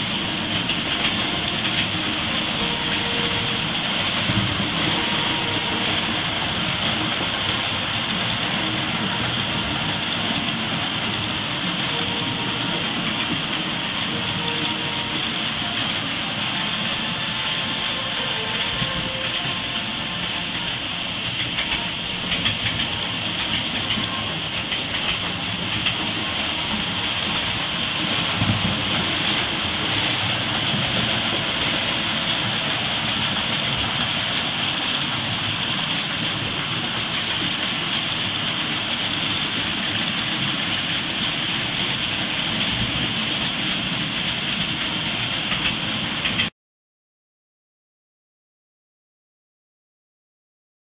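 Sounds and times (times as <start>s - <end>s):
train rattling on rails: 0.0s - 46.5s.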